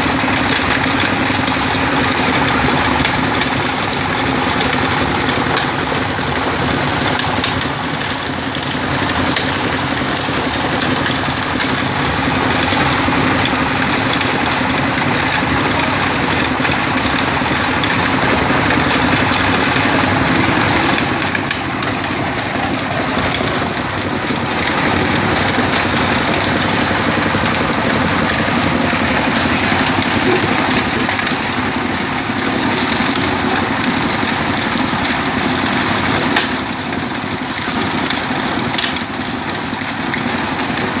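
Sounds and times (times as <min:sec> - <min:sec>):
stone crusher engine drone: 0:00.0 - 0:41.0.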